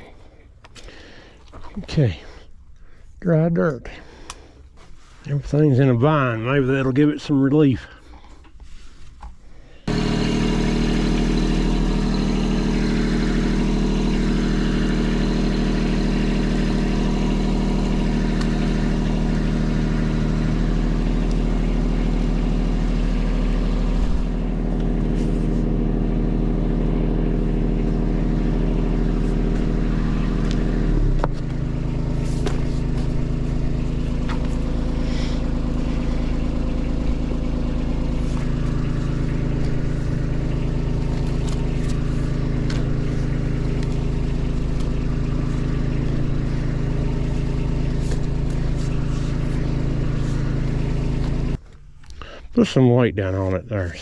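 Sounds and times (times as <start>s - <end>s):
diesel engine running: 0.0s - 52.6s.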